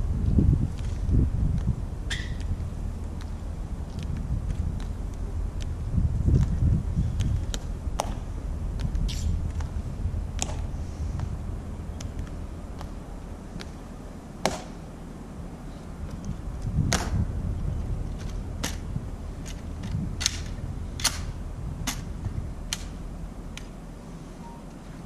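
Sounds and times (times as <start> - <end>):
low rumble: 0.0 - 14.0, 15.5 - 25.0.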